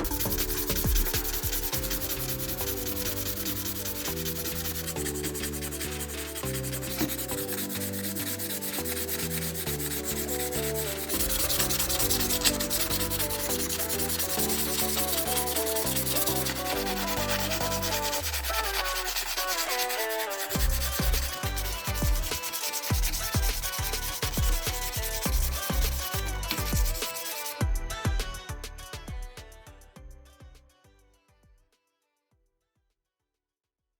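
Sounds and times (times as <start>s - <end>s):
sandpaper rubbing: 0.0s - 27.6s
background music: 0.0s - 31.4s.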